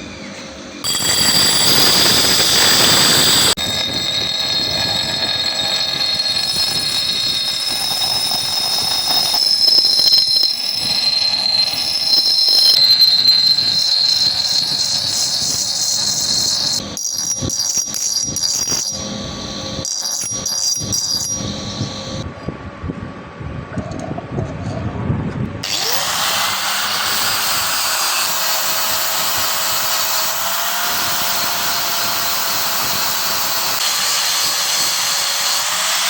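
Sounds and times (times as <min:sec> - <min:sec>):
power tool grinding steel: 0:00.8 - 0:22.2, 0:25.6 - 0:36.0.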